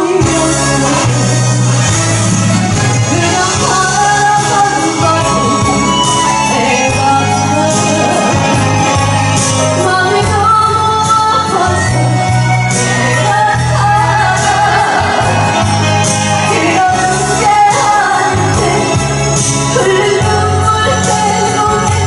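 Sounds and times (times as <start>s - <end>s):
person singing with echo: 0.0s - 1.5s, 3.0s - 22.0s
amplified backing track: 0.0s - 22.0s.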